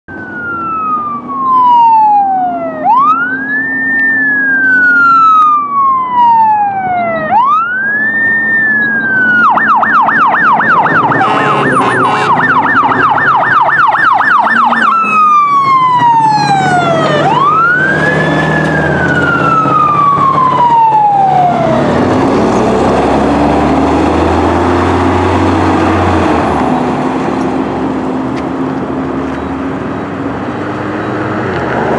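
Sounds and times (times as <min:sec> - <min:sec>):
fire engine siren: 0:00.1 - 0:30.6
fire engine rumbling past: 0:00.1 - 0:31.9.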